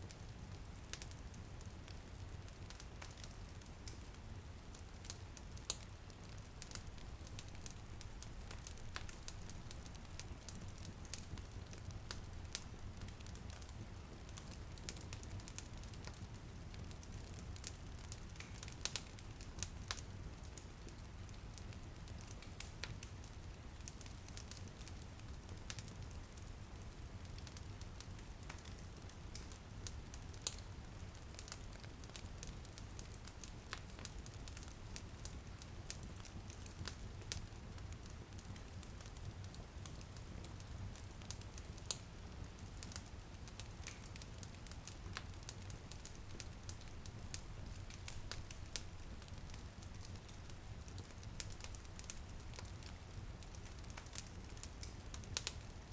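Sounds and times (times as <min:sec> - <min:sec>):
soft hiss of light rain: 0:00.0 - 0:55.9
wood fire crackling and popping: 0:00.1 - 0:55.9.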